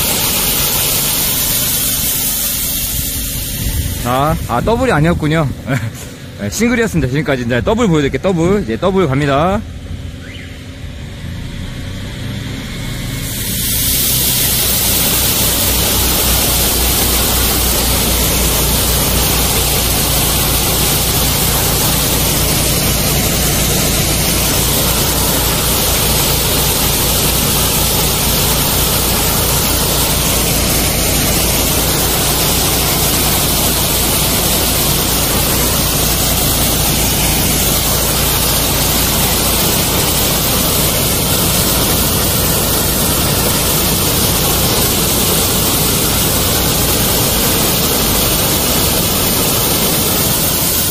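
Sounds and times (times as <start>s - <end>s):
high-pressure water jet hissing: 0.0s - 8.3s, 11.2s - 50.9s
low hum: 0.0s - 50.9s.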